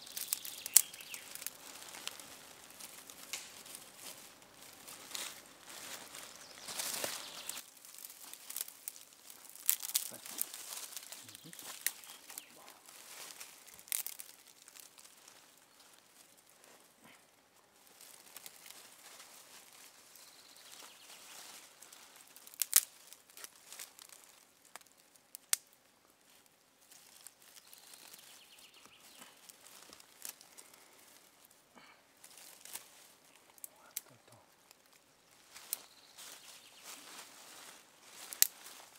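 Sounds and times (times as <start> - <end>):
twigs snapping: 0.0 - 16.3, 17.8 - 25.8, 26.9 - 31.2, 31.8 - 38.9
twigs and leaves rustling: 0.0 - 38.9.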